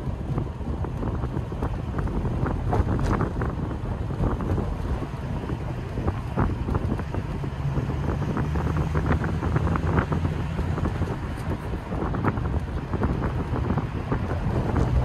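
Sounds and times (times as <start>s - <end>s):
car engine burbling: 0.0s - 15.0s
wind buffeting microphone: 0.0s - 15.0s.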